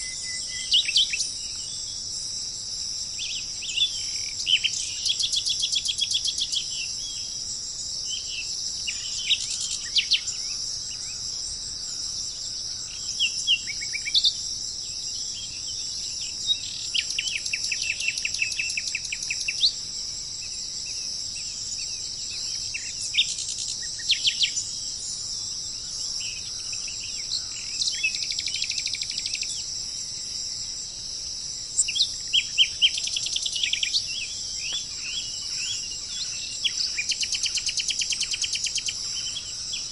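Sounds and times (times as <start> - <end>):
small birds chirping: 0.0 - 2.2, 3.0 - 31.0, 31.6 - 39.9
insect drone: 0.0 - 39.9.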